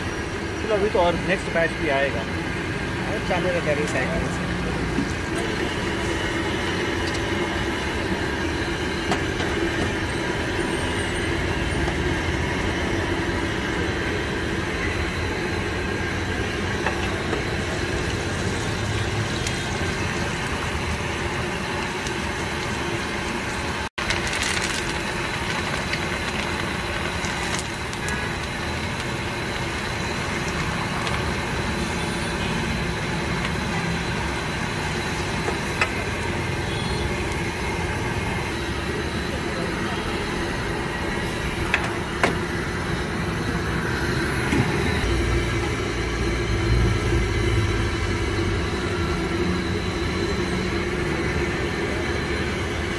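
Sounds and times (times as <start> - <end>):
food deep-frying in oil: 0.0 - 52.9.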